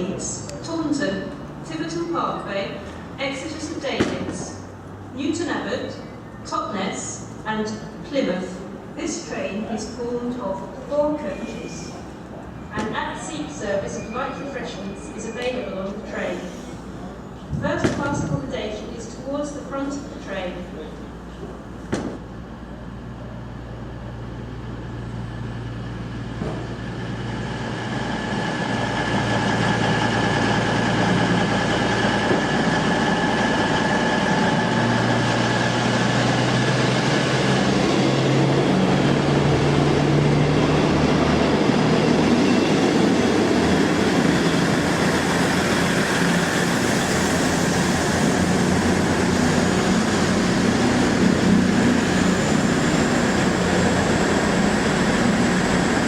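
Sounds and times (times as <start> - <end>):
diesel train engine: 0.0 - 56.0.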